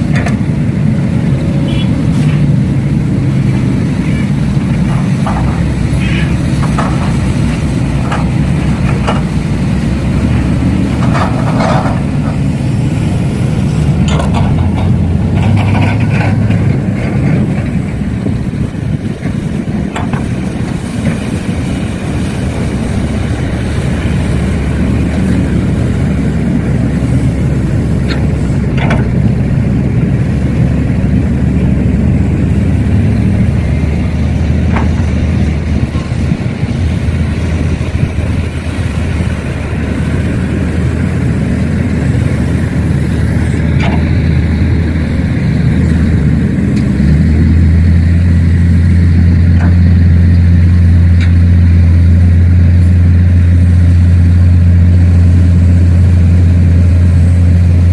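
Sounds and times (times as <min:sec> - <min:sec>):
heavy machine engine droning: 0:00.0 - 0:57.9.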